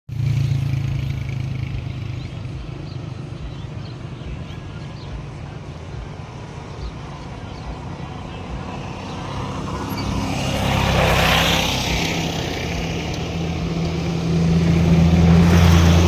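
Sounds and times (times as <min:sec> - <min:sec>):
vehicle engine rumbling: 0:00.1 - 0:16.0.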